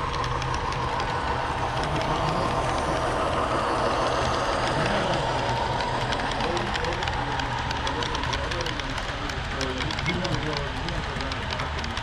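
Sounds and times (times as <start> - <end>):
faint irregular clicks: 0.0 - 12.0
model train wheels rolling: 0.0 - 12.0.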